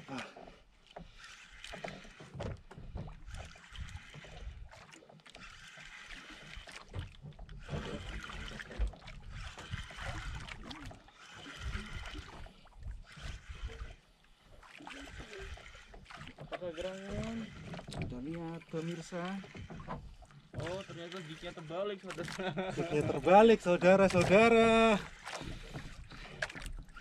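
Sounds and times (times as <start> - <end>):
water lapping against boat: 0.0 - 27.0.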